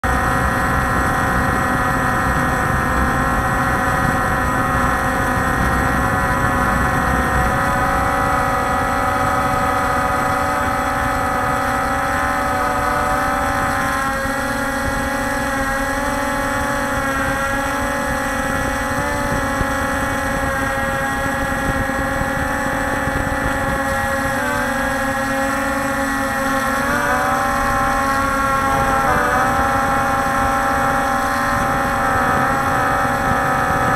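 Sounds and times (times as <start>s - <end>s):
drone motors whining: 0.0s - 33.9s
low rushing: 0.0s - 33.9s.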